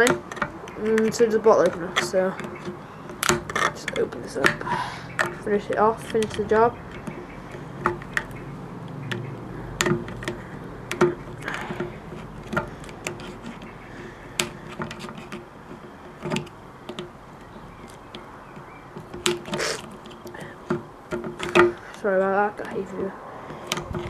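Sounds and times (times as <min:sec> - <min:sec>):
can opener clicking and scraping: 0:00.0 - 0:22.0.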